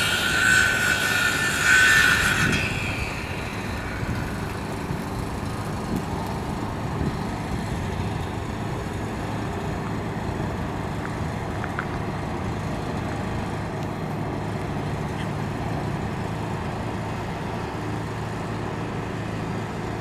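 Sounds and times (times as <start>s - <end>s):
vehicle engines idling: 2.8s - 20.0s.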